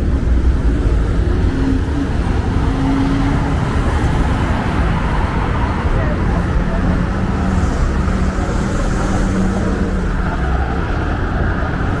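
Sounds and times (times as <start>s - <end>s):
cars driving past: 0.0s - 12.0s
steady engine hum: 0.0s - 12.0s.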